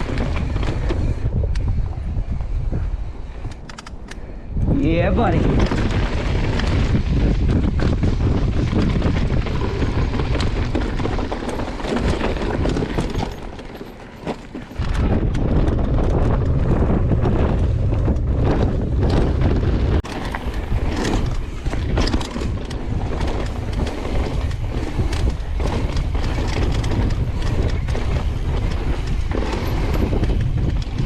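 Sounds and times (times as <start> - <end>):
wind rushing over microphone: 0.0 - 13.6, 14.7 - 31.0
bike rattling over rough trail: 0.0 - 31.0.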